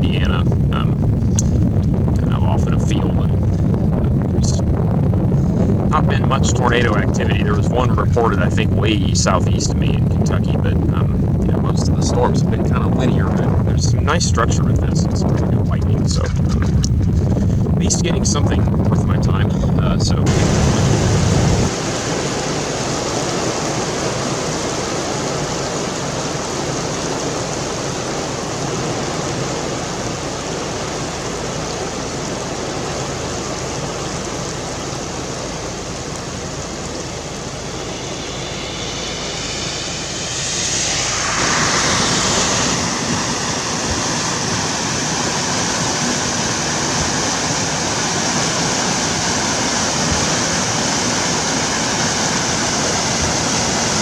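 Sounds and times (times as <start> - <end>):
heavy rain: 0.0 - 54.0
wind: 0.0 - 54.0.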